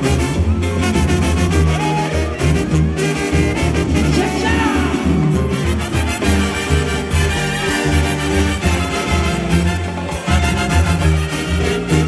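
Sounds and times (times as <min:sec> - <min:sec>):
latin dance band music: 0:00.0 - 0:12.0.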